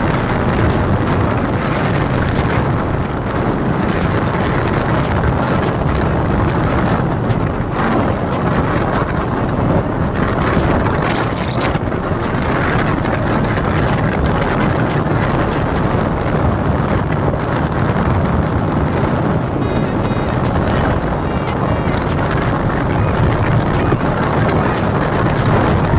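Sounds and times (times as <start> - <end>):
motorcycle engine running: 0.0 - 25.9
wind noise on microphone: 0.0 - 25.9.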